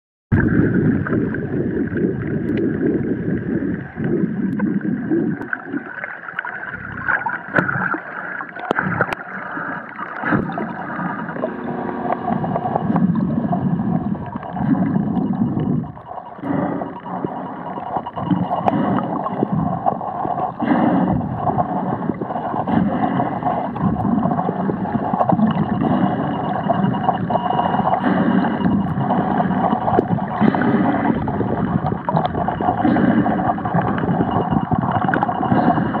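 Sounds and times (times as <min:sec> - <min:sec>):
water gurgling underwater: 0:00.3 - 0:36.0.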